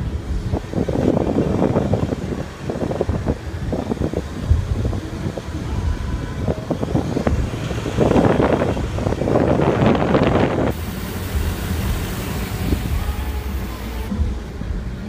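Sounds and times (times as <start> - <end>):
refrigeration unit droning: 0.0 - 15.0
wind buffeting microphone: 0.0 - 15.0.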